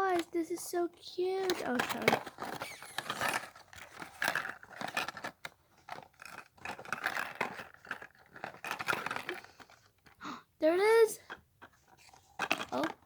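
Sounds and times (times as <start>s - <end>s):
plastic scraping and crinkling: 0.0s - 13.0s.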